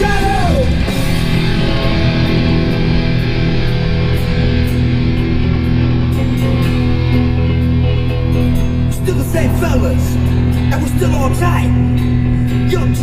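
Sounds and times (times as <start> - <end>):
distorted electric guitars: 0.0 - 13.0.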